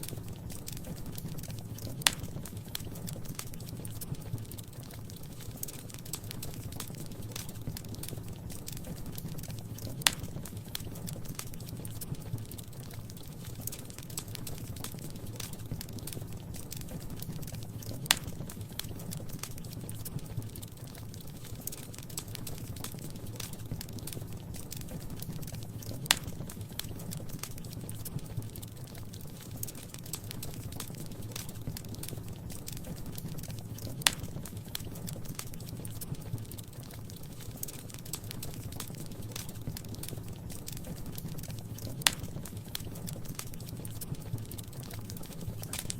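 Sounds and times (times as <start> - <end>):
low fire rumble: 0.0 - 45.9
wood fire crackling: 0.0 - 45.9.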